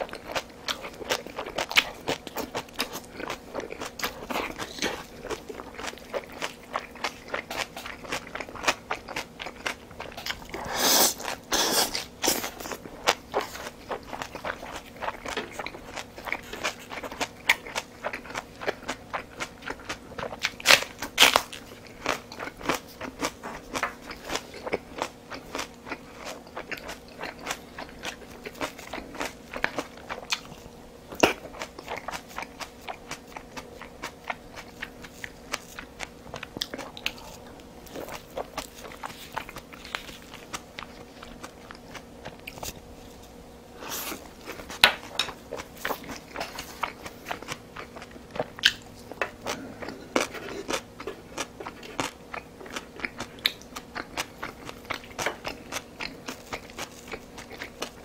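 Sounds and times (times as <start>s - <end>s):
person chewing and biting: 0.0s - 43.0s, 43.8s - 58.0s.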